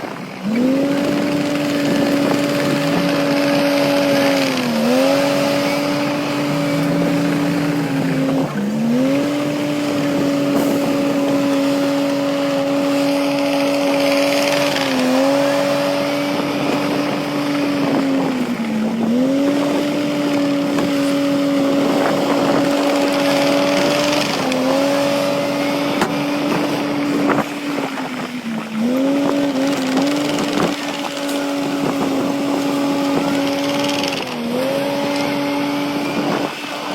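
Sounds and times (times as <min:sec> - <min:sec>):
diesel engine rumble: 0:00.0 - 0:36.9
earthmoving machine high whine: 0:00.0 - 0:36.9.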